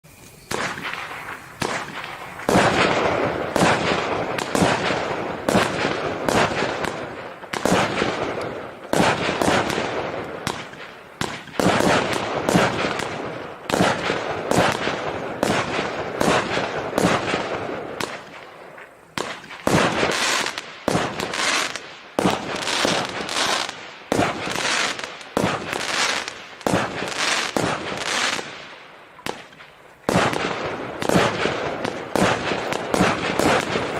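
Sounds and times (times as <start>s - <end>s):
fireworks shots firing: 0.1s - 33.9s.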